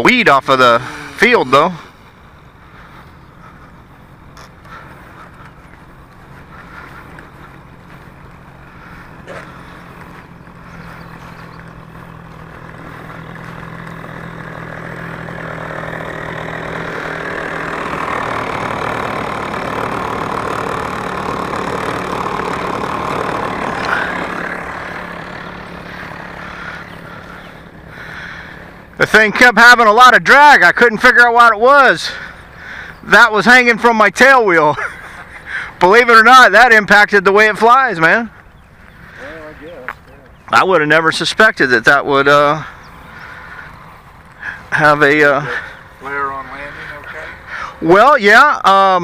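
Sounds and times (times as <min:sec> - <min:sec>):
model plane engine running: 0:00.0 - 0:49.0.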